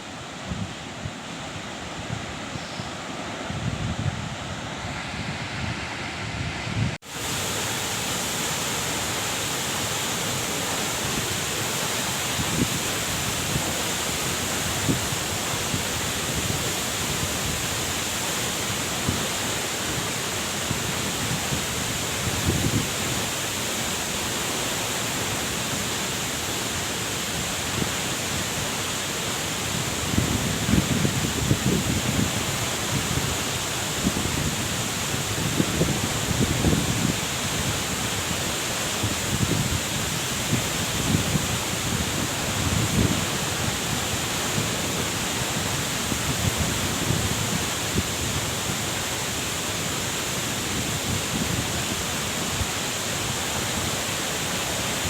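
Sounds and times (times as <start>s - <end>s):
waterfall rushing: 4.4s - 55.0s.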